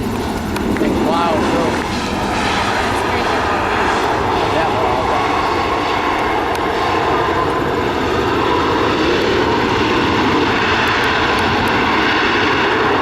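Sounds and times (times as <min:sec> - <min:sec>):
airliner engine noise: 0:00.0 - 0:13.0.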